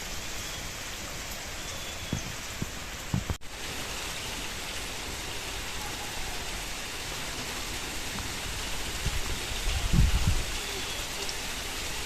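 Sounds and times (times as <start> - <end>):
rain falling: 0.0 - 12.0
heavy raindrops knocking: 1.1 - 12.0.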